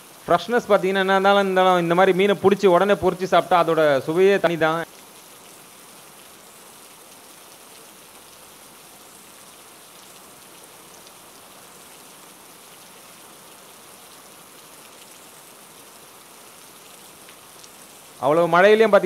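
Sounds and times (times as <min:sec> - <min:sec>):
heavy rain on wet ground: 0:00.0 - 0:19.0.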